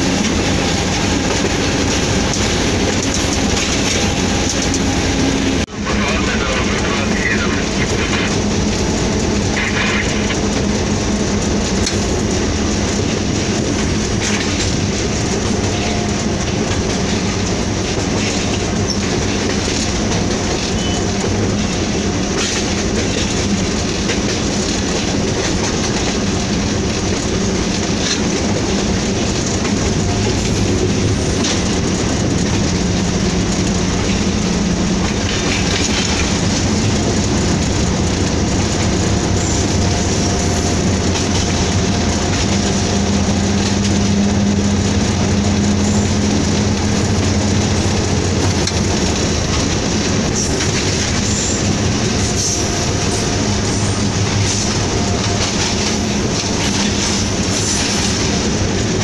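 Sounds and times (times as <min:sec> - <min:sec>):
wheels clattering over rail joints: 0:00.0 - 0:05.7, 0:08.4 - 0:59.0
locomotive engine droning: 0:00.0 - 0:59.0.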